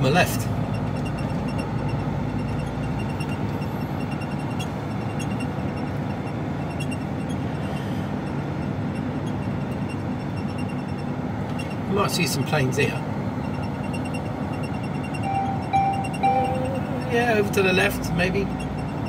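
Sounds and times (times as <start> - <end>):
truck diesel engine drone: 0.0 - 19.0
tyre and road noise: 0.0 - 19.0.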